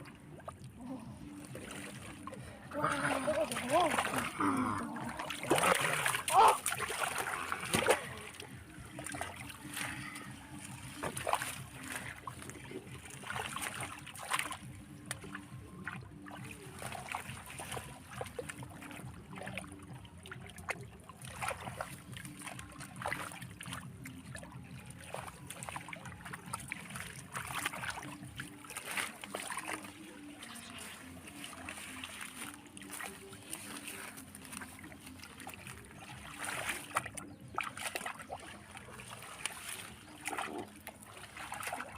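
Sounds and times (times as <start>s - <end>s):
river water splashing: 0.0s - 41.9s.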